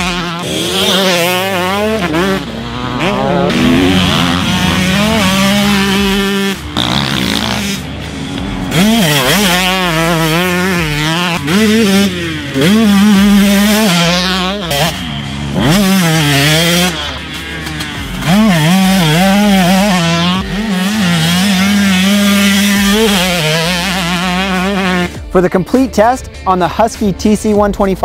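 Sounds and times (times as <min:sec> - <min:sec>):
two-stroke motorcycle engine revving: 0:00.0 - 0:26.2.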